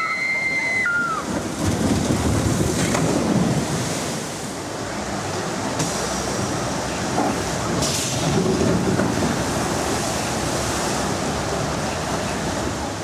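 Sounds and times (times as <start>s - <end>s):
boat splashing through channel: 0.0s - 13.0s
water rushing down flume: 0.0s - 13.0s.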